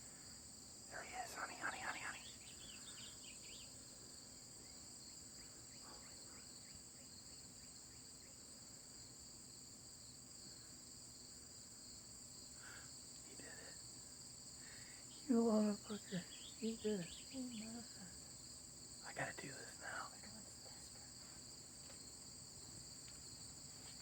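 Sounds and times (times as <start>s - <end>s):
high-pitched insect chorus trilling: 0.0s - 24.0s.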